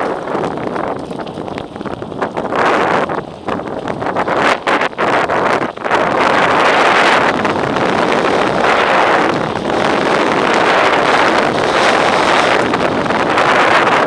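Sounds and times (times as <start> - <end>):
bike tyres rolling on gravel: 0.0 - 14.0
wind rushing on microphone: 0.0 - 14.0.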